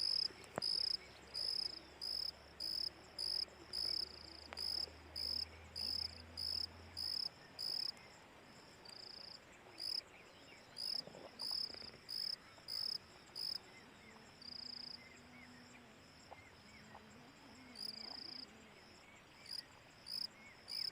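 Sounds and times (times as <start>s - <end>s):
cricket chirping: 0.0s - 20.9s.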